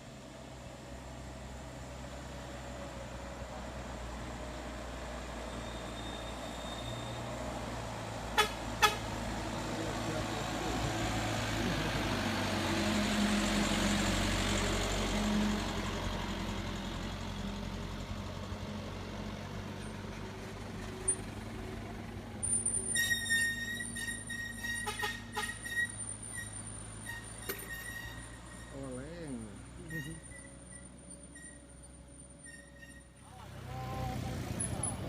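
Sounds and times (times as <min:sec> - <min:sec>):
truck diesel engine passing: 0:00.0 - 0:35.0.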